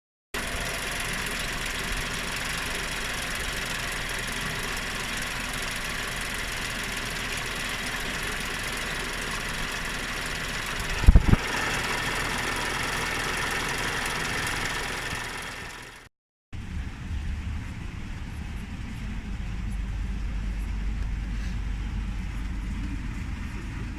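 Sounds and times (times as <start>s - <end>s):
car engine idling with knocking: 0.4s - 23.9s.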